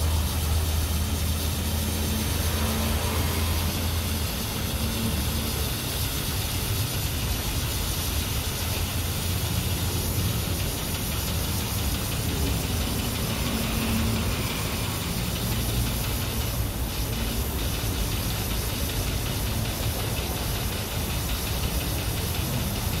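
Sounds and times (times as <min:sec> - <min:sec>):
car engine idling: 0:00.0 - 0:23.0
steam hissing: 0:00.0 - 0:23.0.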